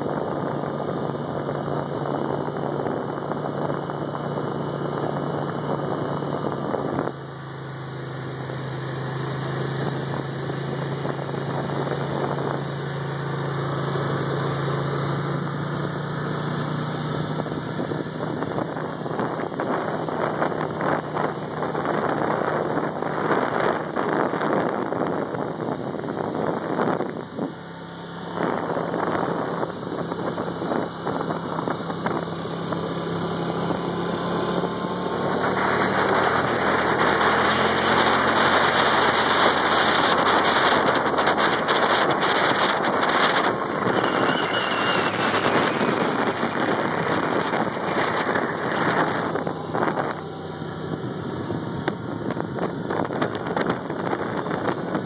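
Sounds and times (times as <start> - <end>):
atv engine running: 0.0 - 55.0
wind on microphone: 9.0 - 27.6, 28.2 - 55.0.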